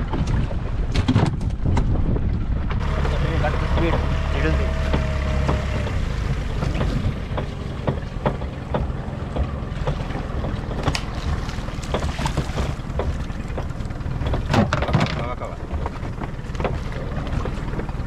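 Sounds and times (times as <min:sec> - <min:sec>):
wind buffeting microphone: 0:00.0 - 0:14.9
boat engine rumble: 0:00.0 - 0:18.0
water splashing against hull: 0:00.0 - 0:18.0.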